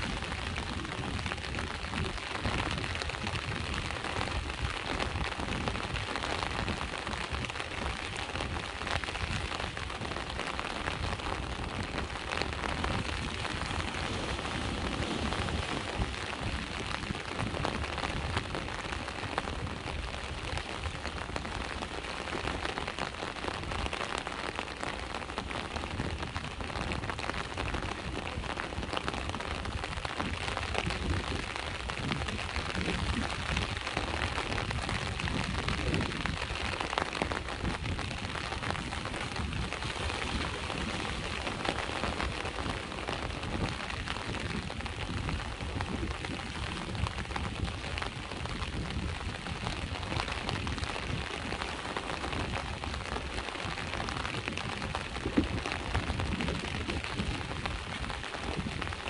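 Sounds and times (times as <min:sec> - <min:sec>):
sea surf rumble: 0:00.0 - 0:56.3
rain falling: 0:00.0 - 0:59.0.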